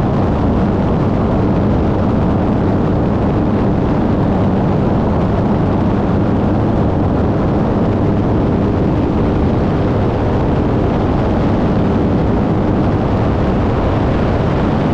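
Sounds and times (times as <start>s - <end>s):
propeller airplane engine drone: 0.0s - 14.9s
rushing air: 0.0s - 14.9s.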